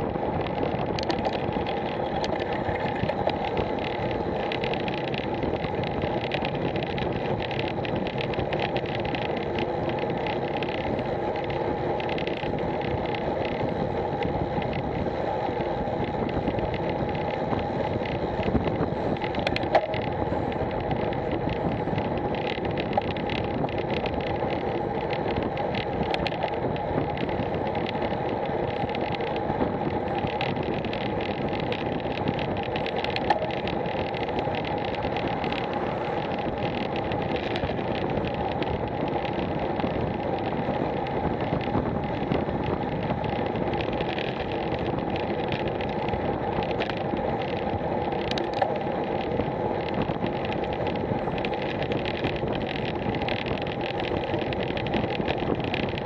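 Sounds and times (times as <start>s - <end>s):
tyres humming on tarmac: 0.0s - 56.0s
wind rushing over microphone: 0.0s - 56.0s
sharp ticks: 0.1s - 56.0s.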